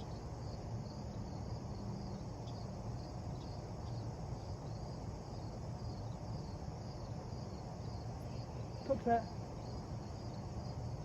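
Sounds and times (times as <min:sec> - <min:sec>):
insects chirping: 0:00.0 - 0:11.0
low mechanical hum: 0:00.0 - 0:11.0.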